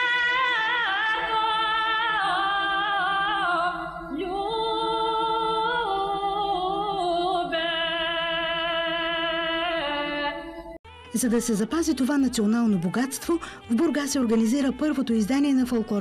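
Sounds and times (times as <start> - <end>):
woman singing a folk song: 0.0 - 16.0.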